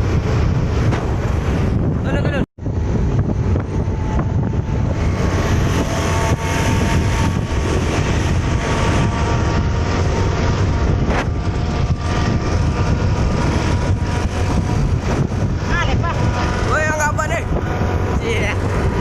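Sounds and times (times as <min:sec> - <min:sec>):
passing traffic road noise: 0:00.0 - 0:19.0
truck engine rumbling: 0:00.0 - 0:19.0.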